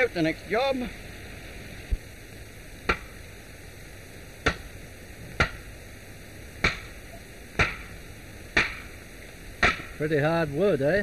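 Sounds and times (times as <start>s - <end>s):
film soundtrack hiss: 0.0s - 11.0s.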